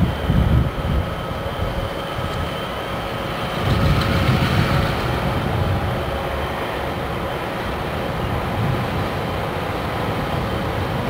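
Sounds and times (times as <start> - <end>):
faint steady whining tones: 0.0 - 11.0
locomotive engine rumble: 0.0 - 11.0.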